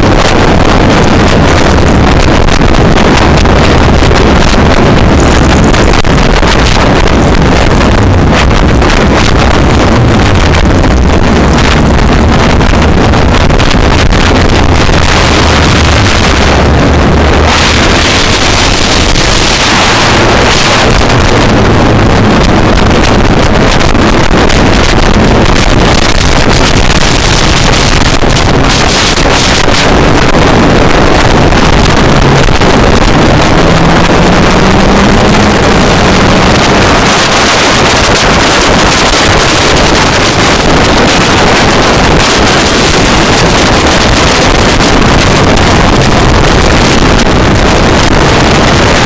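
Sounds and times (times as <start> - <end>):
race car engine running hard: 0.0 - 49.0
wind noise on microphone: 0.0 - 49.0.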